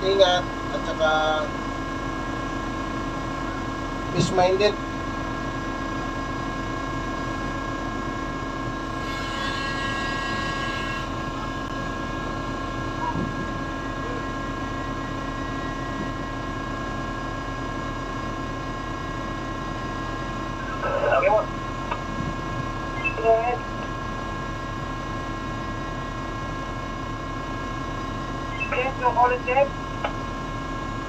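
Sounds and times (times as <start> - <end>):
hydraulic crane machinery hum: 0.1 - 31.0.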